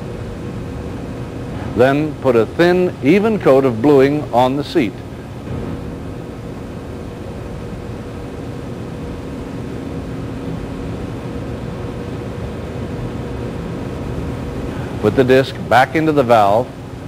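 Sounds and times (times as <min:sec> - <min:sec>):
faint electrical hum: 0:00.0 - 0:17.0
steady background hiss: 0:00.0 - 0:17.0.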